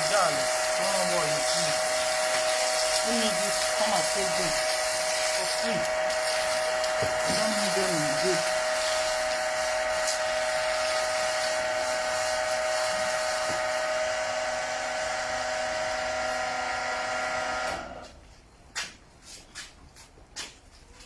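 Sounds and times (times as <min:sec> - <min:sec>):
small electric motor whirring: 0:00.0 - 0:18.0.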